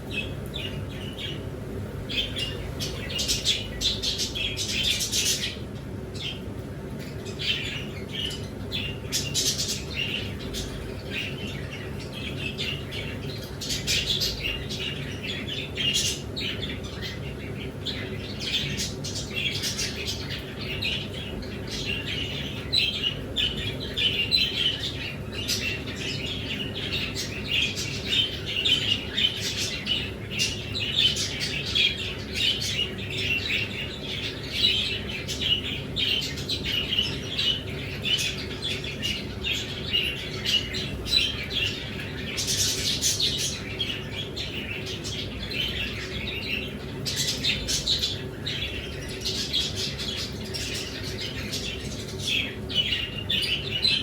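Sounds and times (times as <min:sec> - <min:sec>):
low steady hum: 0:00.0 - 0:54.0
small birds chirping and squawking: 0:00.0 - 0:54.0.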